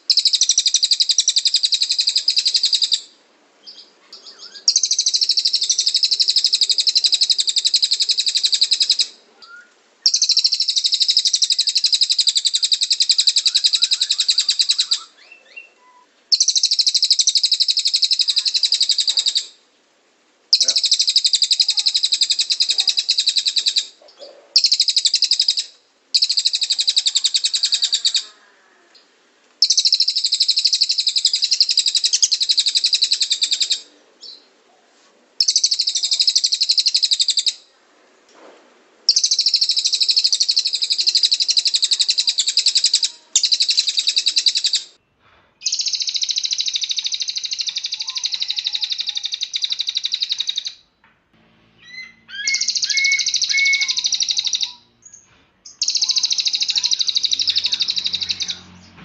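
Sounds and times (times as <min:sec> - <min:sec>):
bird trilling: 0:00.1 - 0:19.6, 0:20.5 - 0:28.5, 0:29.6 - 0:34.4, 0:35.4 - 0:37.7, 0:39.1 - 0:45.0, 0:45.6 - 0:50.8, 0:51.8 - 0:58.8.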